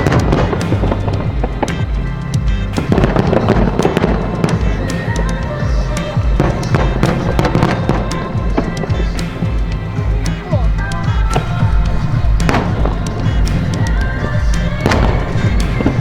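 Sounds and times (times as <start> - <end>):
fireworks popping and crackling: 0.0 - 16.0
music with steady bass beat: 0.0 - 16.0.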